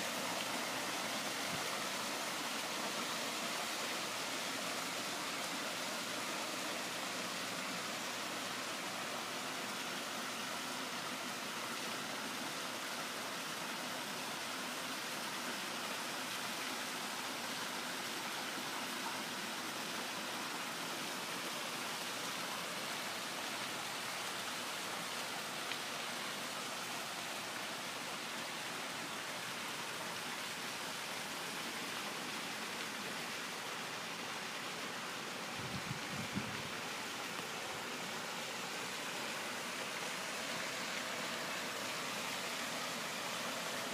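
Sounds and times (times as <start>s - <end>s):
waterfall pouring into pool: 0.0s - 43.9s.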